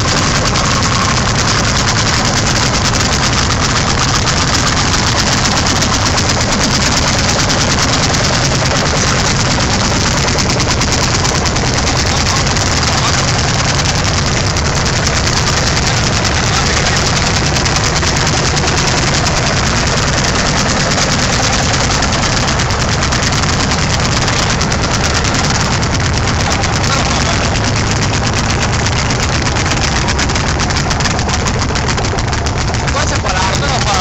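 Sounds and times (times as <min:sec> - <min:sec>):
tractor engine running under load: 0:00.0 - 0:34.0.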